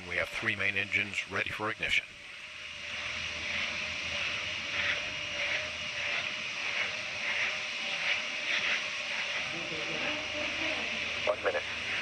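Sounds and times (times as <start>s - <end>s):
steady hiss with soft swells: 0.0s - 12.0s.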